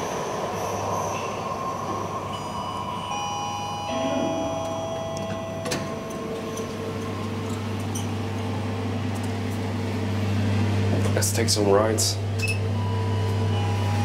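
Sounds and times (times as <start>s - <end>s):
train electric motors whining: 0.0s - 14.0s.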